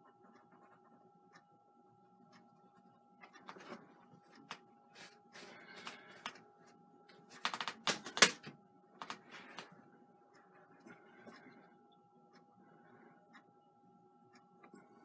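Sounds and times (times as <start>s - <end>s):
faint steady tone: 0.0s - 7.4s, 8.5s - 15.0s.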